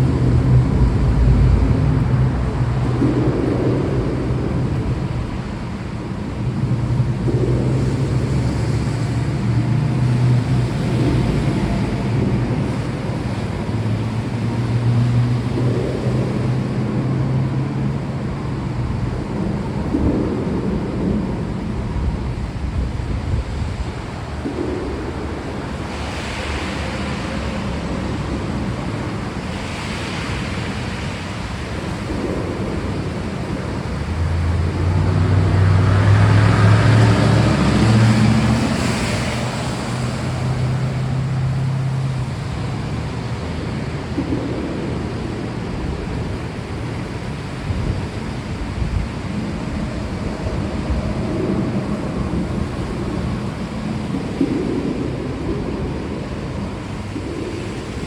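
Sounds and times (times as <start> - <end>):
steady rain: 0.0 - 58.0
thunder rumbling: 0.0 - 58.0.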